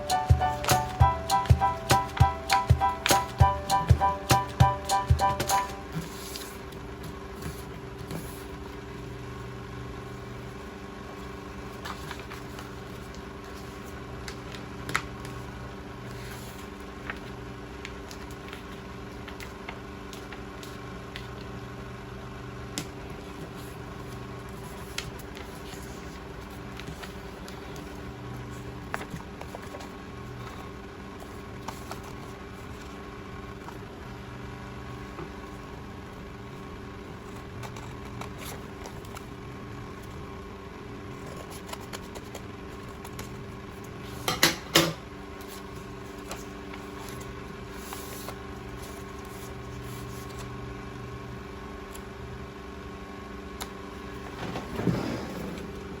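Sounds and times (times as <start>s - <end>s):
electrical hum: 0.0s - 56.0s.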